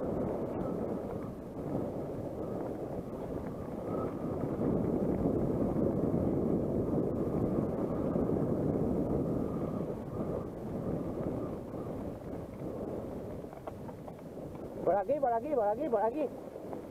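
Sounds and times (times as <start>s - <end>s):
wind rushing over microphone: 0.0s - 16.9s.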